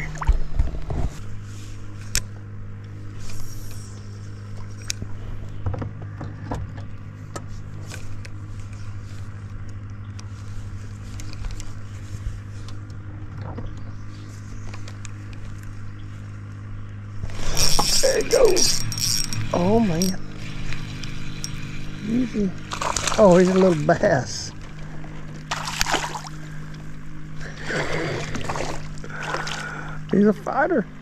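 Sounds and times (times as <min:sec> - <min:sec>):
small motor humming: 0:00.0 - 0:05.8, 0:06.8 - 0:31.0.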